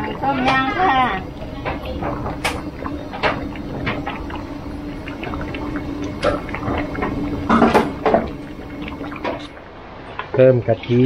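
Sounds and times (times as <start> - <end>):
liquid pouring into a pot: 0.0 - 9.7
low hum: 0.0 - 10.2.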